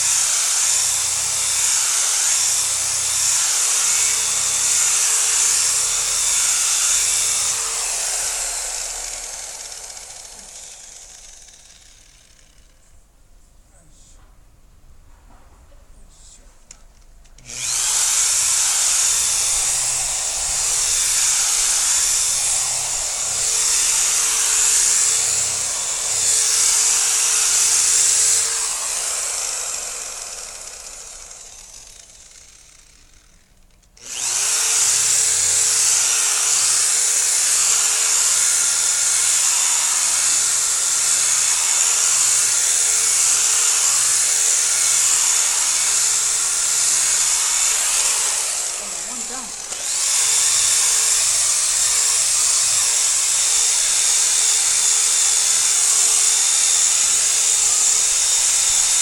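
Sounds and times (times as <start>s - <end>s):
car polisher whirring: 0.0s - 12.8s, 17.4s - 59.0s.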